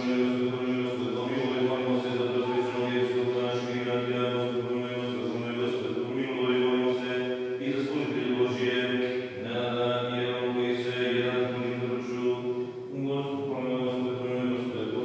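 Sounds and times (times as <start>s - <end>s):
man chanting in church: 0.0s - 15.0s.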